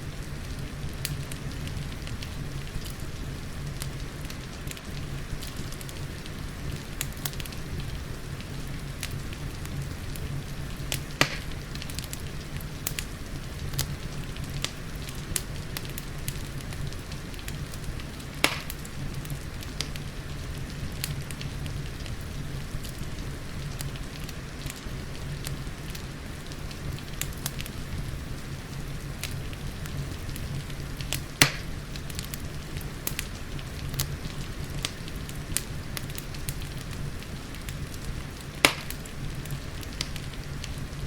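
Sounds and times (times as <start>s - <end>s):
rain hissing: 0.0s - 41.0s
wood fire crackling: 0.0s - 41.0s
loud fire pops: 0.1s - 41.0s.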